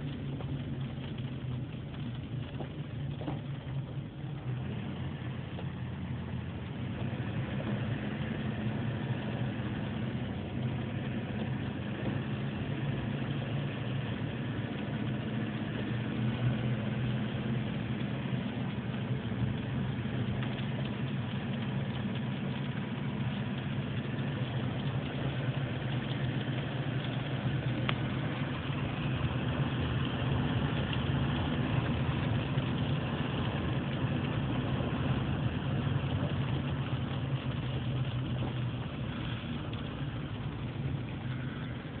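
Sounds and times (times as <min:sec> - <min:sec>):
hail and rain pattering: 0:00.0 - 0:42.0
low steady hum: 0:00.0 - 0:42.0.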